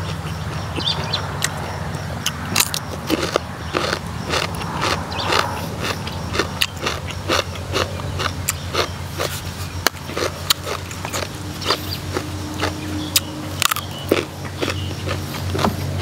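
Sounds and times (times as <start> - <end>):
low hum: 0.0 - 16.0
person chewing food: 0.0 - 16.0.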